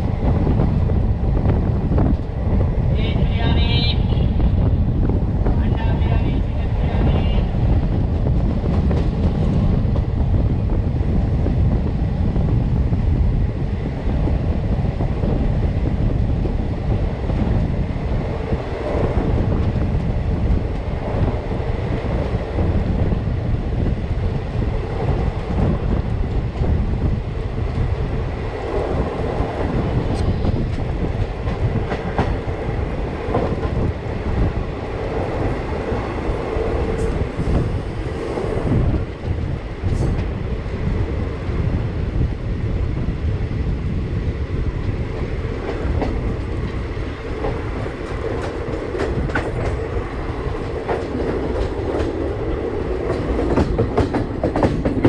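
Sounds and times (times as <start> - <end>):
clickety-clack over rail joints: 0.0 - 12.8, 13.8 - 41.8, 44.5 - 55.0
train wheels rumbling on rails: 0.0 - 55.0.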